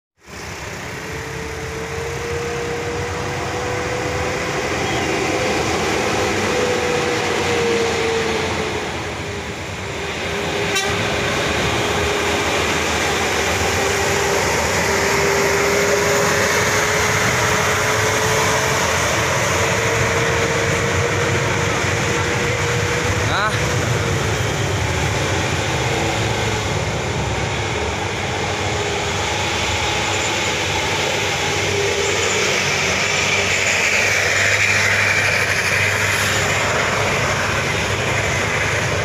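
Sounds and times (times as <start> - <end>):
bus engine: 0.2 - 39.0
heavy truck engine: 0.2 - 39.0
steady whine: 0.2 - 39.0.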